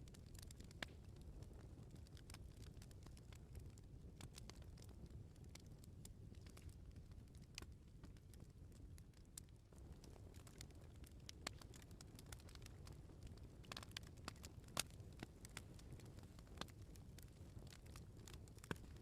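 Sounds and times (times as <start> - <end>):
bonfire crackling and popping: 0.0 - 19.0
low steady fire rumble: 0.0 - 19.0.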